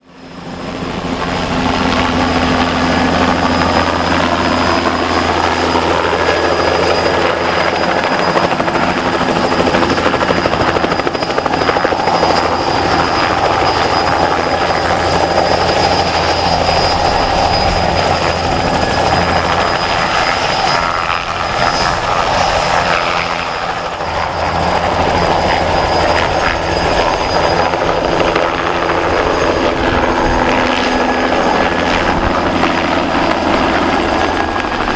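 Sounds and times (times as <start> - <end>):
helicopter rotor beating: 0.0 - 34.9
high turbine whine: 0.0 - 34.9.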